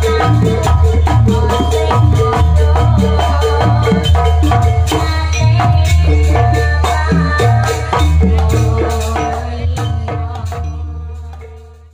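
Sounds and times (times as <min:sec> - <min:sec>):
struck gongs and metallophones: 0:00.0 - 0:11.6.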